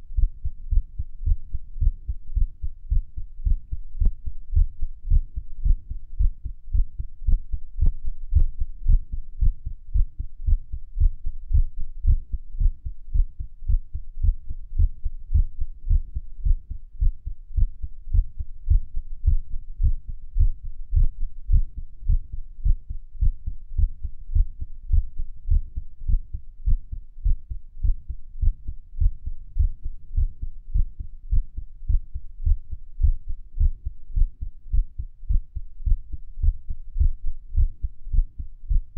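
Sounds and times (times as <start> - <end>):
rapid uneven heartbeat thumps: 0.1 - 38.9.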